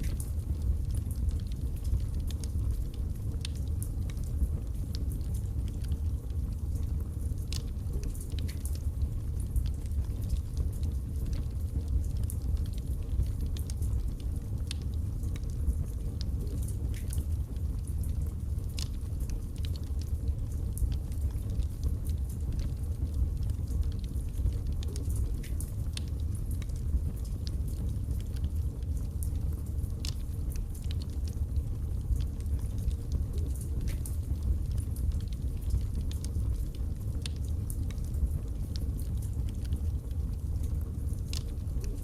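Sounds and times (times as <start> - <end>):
logs crackling and popping: 0.0 - 42.0
low rumble of flames: 0.0 - 42.0.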